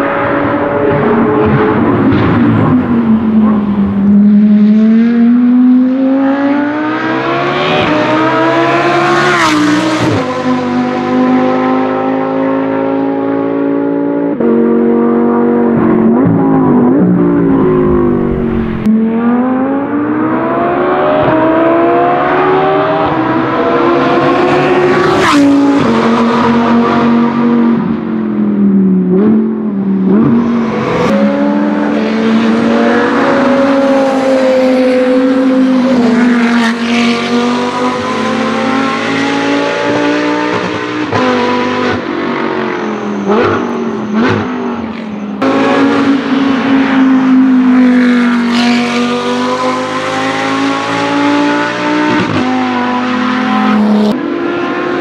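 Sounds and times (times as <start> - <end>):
racing engine revving: 0.0 - 28.0, 29.1 - 55.0.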